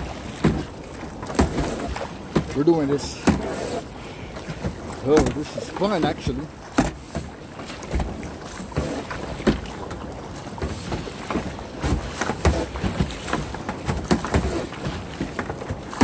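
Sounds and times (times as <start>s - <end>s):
water slapping against kayak: 0.0s - 16.0s.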